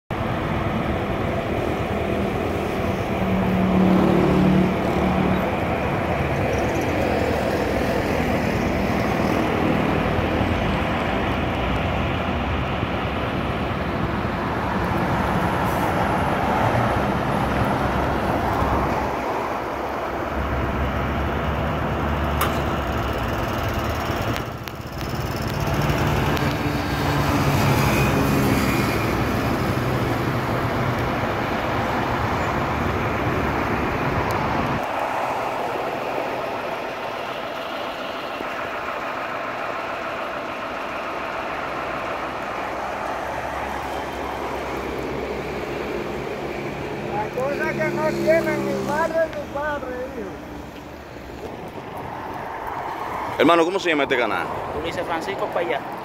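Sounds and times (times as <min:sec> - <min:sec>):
road traffic passing: 0:00.1 - 0:56.0.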